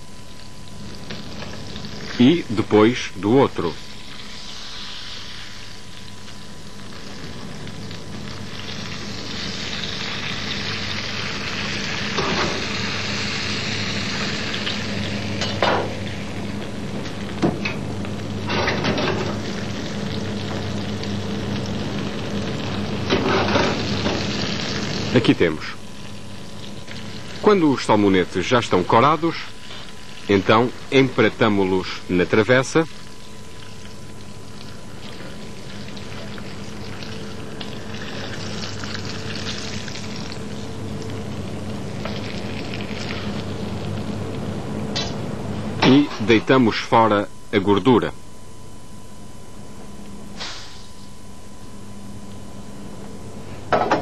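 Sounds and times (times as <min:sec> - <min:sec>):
fish sizzling in a pan: 0:00.1 - 0:45.2, 0:50.4 - 0:51.1.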